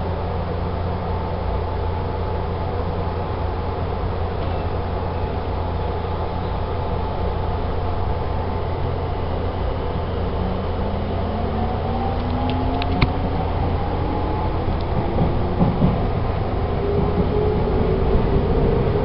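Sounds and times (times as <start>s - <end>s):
steady low hum: 0.0s - 18.3s
train traction motors whining: 0.2s - 19.0s.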